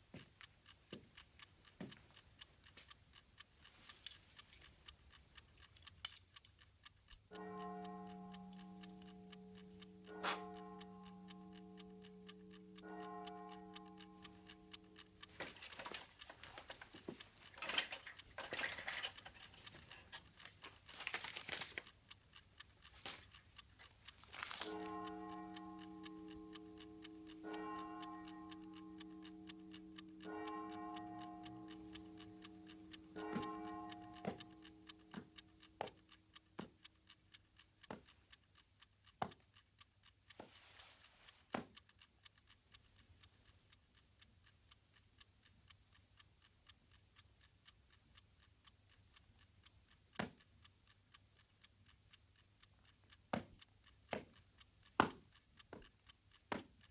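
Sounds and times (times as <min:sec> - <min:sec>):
alarm clock ticking: 0:00.0 - 0:56.9.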